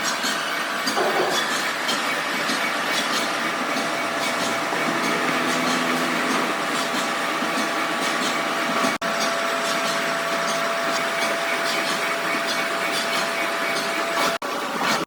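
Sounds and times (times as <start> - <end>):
workshop machine noise: 0.0 - 15.0.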